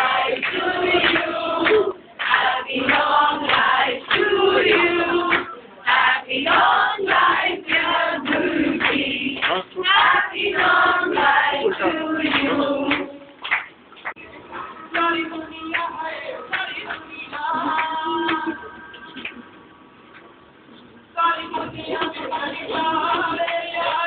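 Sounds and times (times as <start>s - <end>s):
group of people singing: 0.0s - 13.4s, 14.9s - 19.2s, 21.2s - 24.0s.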